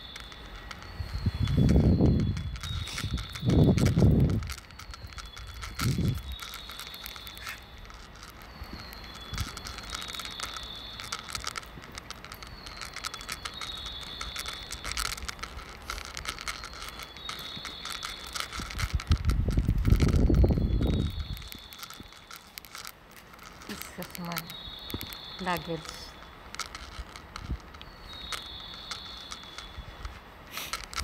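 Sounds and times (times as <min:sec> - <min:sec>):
recorded bird chirps over speakers: 0:00.0 - 0:22.6, 0:23.6 - 0:30.1
crackling microphone noise: 0:00.0 - 0:31.0.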